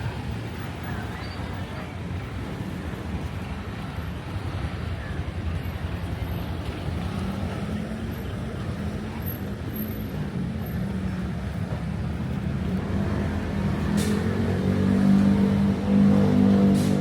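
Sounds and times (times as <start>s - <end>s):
vehicle engines running: 0.0s - 17.0s.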